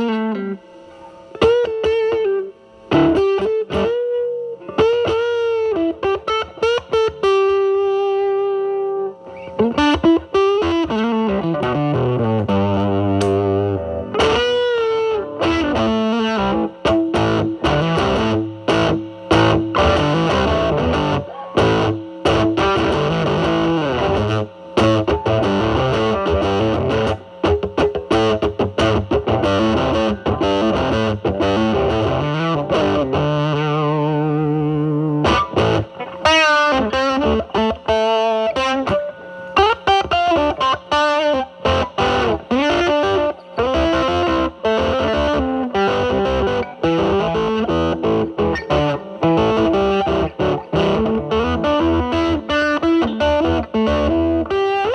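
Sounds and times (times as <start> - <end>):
fuzz electric guitar: 0.0 - 54.9.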